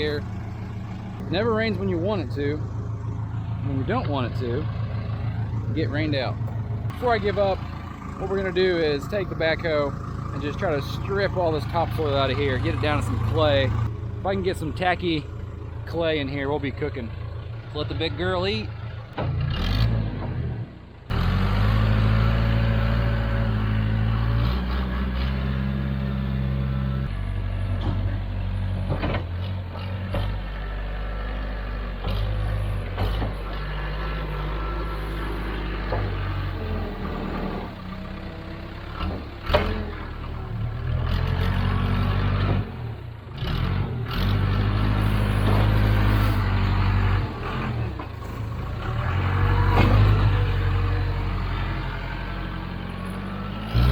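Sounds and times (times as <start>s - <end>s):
backhoe diesel engine working: 0.0s - 53.9s.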